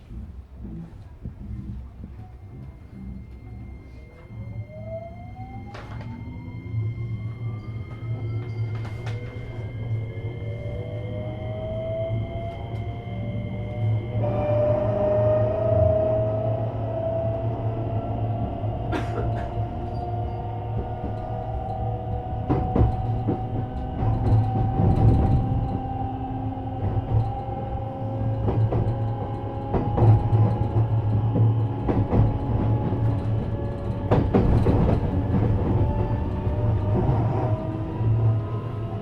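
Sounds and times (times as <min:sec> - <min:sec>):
train rumble: 0:00.0 - 0:39.0
electric train motors whining: 0:02.0 - 0:39.0.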